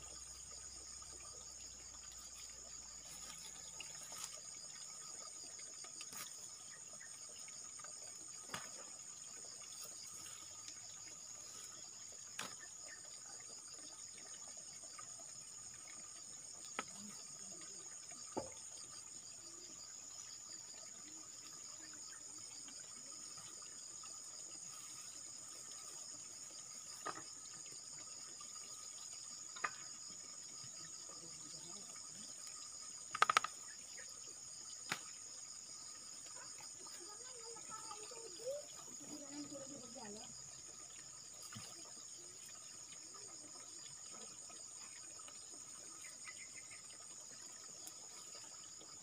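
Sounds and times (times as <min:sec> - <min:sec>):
insect chorus trilling: 0:00.0 - 0:49.0.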